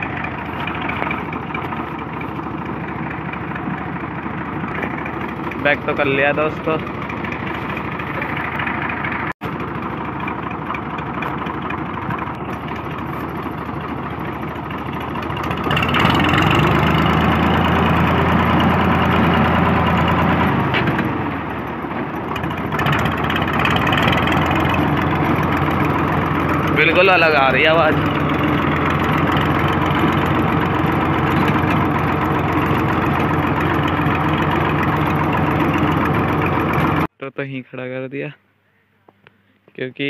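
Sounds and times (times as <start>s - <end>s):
unmuffled tractor engine running: 0.0s - 37.1s.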